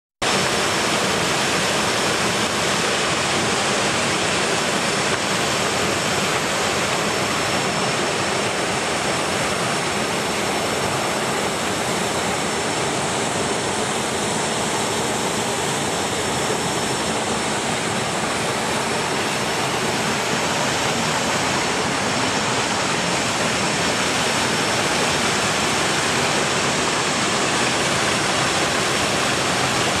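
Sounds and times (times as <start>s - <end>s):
waterfall rushing: 0.2s - 30.0s.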